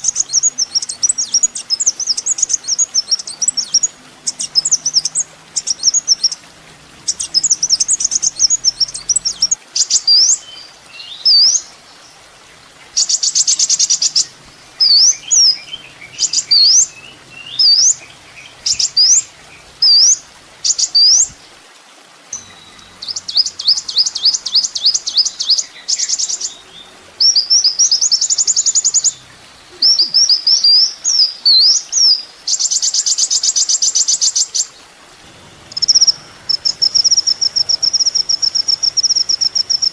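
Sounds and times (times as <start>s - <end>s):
sunbird chirping song: 0.0s - 6.4s, 7.0s - 12.2s, 12.9s - 21.4s, 22.3s - 34.9s, 35.6s - 39.9s.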